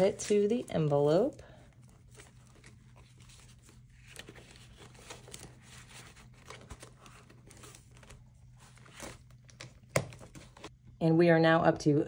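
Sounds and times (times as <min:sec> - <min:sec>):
paper banknotes rustling: 0:00.0 - 0:10.7
plastic pouch handled: 0:00.0 - 0:10.7.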